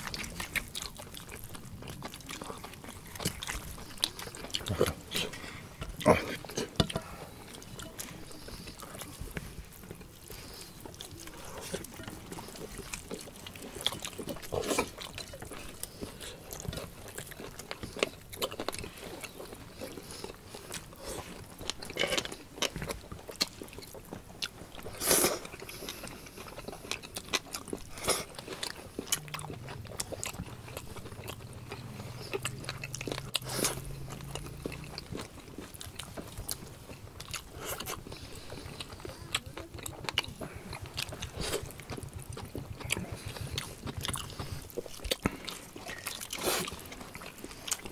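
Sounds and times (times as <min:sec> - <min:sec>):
chewing and biting food: 0:00.0 - 0:47.9
low steady hum: 0:00.0 - 0:47.9.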